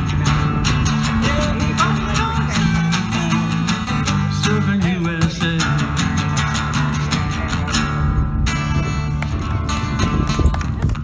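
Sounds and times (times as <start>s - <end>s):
acoustic guitar strumming: 0.0s - 10.5s.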